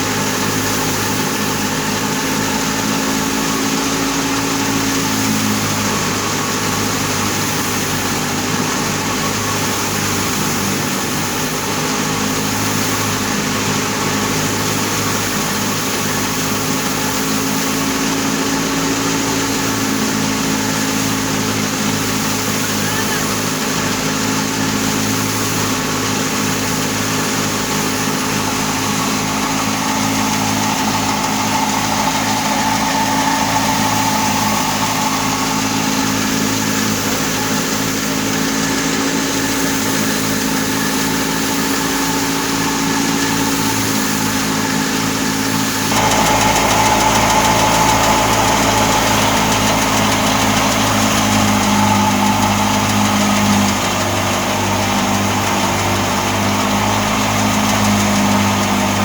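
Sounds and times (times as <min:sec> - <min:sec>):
harvester engine running: 0:00.0 - 0:59.0.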